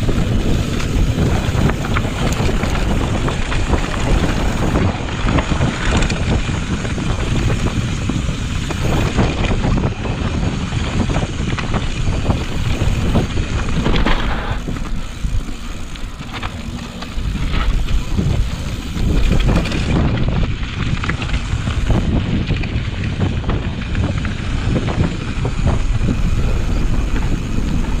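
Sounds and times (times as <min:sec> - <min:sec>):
bike knocks and rattles: 0:00.0 - 0:28.0
wind buffeting microphone: 0:00.0 - 0:28.0.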